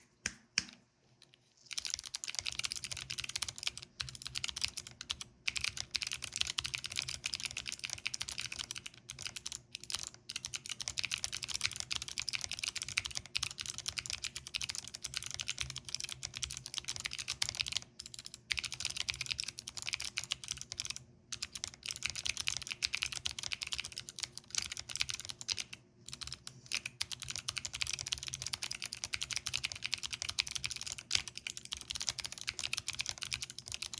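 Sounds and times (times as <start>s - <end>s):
fast mechanical keyboard typing: 1.7s - 33.9s.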